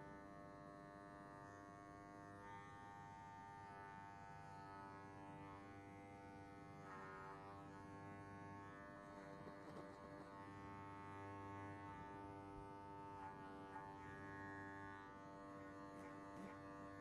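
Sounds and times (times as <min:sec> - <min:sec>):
electric hair clippers buzzing: 0:01.4 - 0:16.9.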